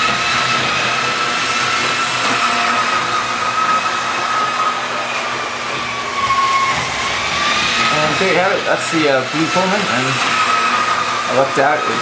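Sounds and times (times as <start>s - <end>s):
model train motor whining: 0.0s - 12.0s.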